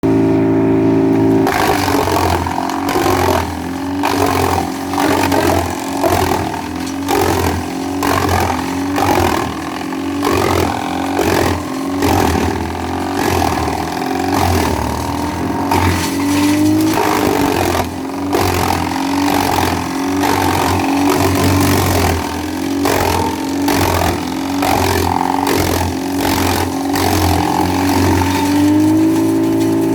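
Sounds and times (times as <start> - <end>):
wood chipper engine running: 0.0 - 29.9.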